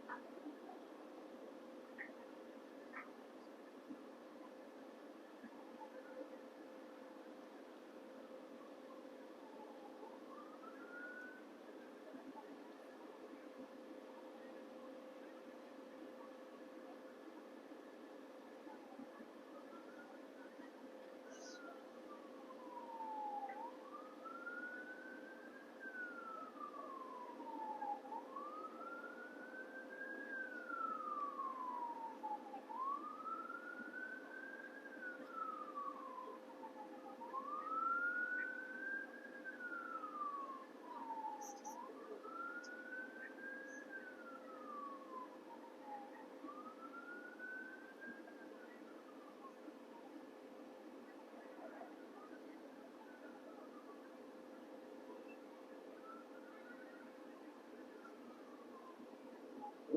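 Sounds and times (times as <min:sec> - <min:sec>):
distant siren wailing: 0:00.0 - 0:59.9.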